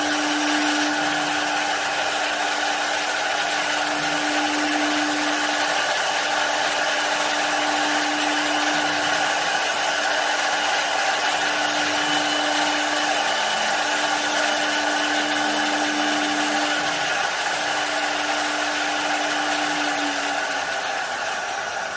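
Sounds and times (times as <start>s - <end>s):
hiss of wood cutting: 0.0s - 21.9s
lathe motor whine: 0.0s - 21.9s.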